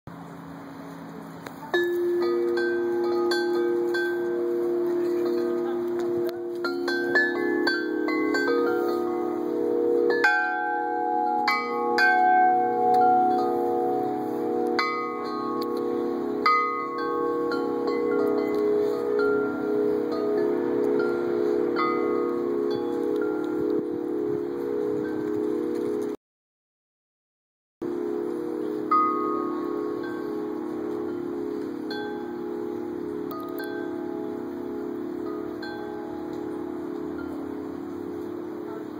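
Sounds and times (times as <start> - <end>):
large metal tube wind chime ringing: 0.4 - 26.2, 27.8 - 38.9.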